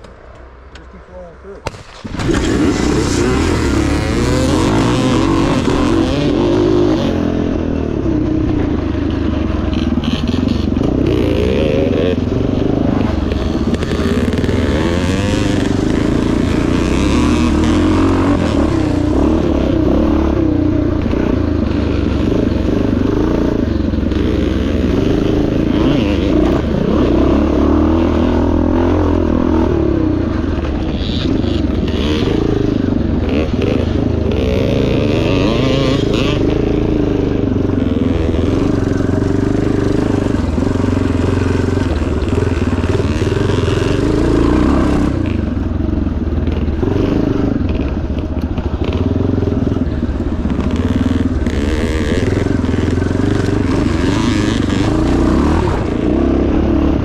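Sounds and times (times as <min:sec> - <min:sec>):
motorcycle engine revving: 0:01.6 - 0:57.0.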